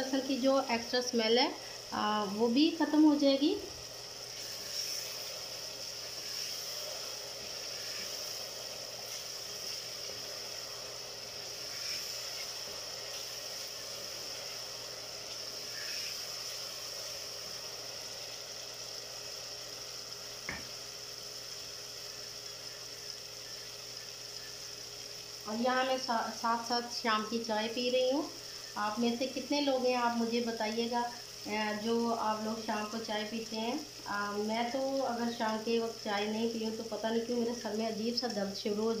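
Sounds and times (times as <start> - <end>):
onion sizzling in hot oil: 0.0 - 39.0.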